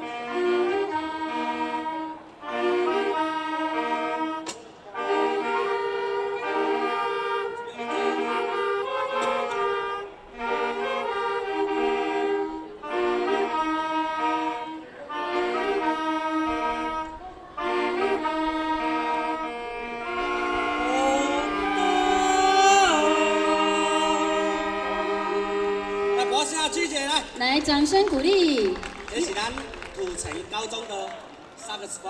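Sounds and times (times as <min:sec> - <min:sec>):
saxophone ensemble playing: 0:00.0 - 0:31.8.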